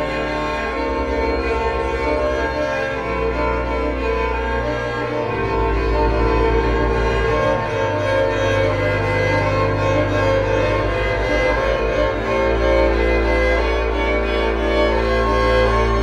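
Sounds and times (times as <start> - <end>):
church pipe organ chords: 0.0 - 16.0.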